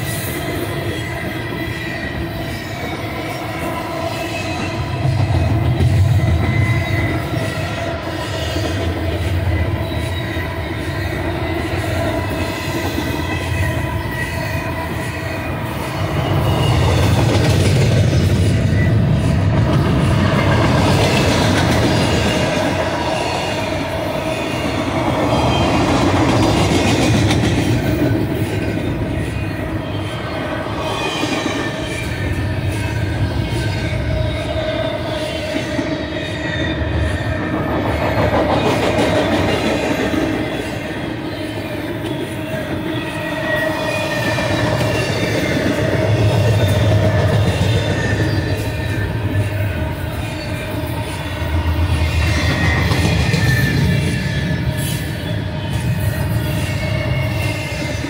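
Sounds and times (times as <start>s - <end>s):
high wheel squeal: 0.0s - 58.0s
train wheels rumbling on rail: 0.0s - 58.0s.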